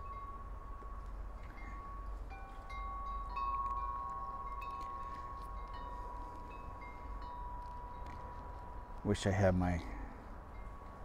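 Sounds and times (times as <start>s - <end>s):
metal wind chimes ringing: 0.0s - 11.0s.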